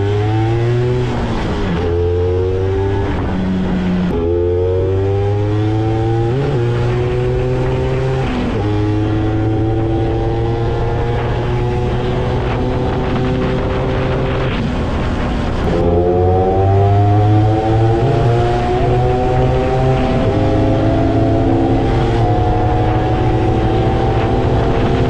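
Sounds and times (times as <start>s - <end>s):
scooter engine accelerating hard: 0.0s - 25.0s.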